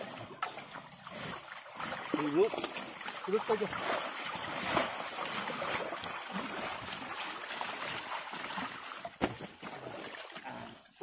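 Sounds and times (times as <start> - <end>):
water sloshing and draining: 0.0 - 11.0.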